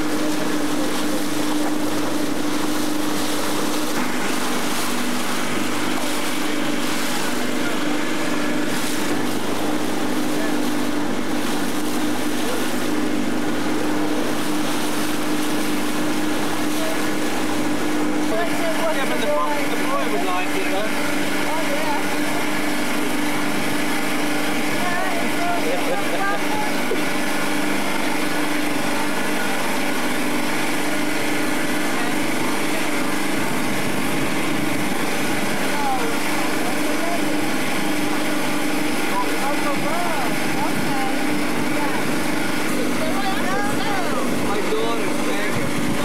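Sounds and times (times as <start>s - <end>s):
outboard motor humming: 0.0s - 46.0s
water and wind hiss: 0.0s - 46.0s.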